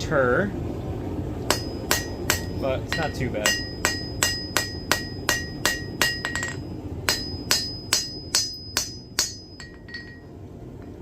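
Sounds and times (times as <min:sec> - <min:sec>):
hammer striking iron on anvil: 0:01.5 - 0:11.0.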